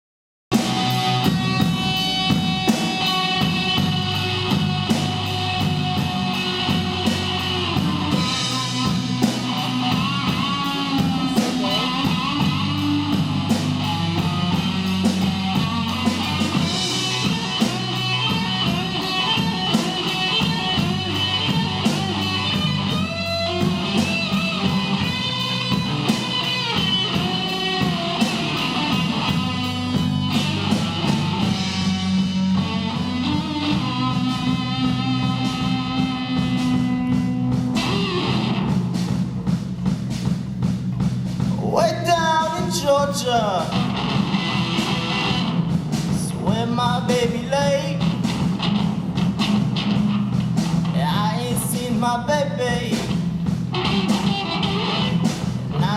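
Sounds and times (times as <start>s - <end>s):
drum kit steady beat: 0.5s - 55.9s
rock guitar: 0.5s - 55.9s.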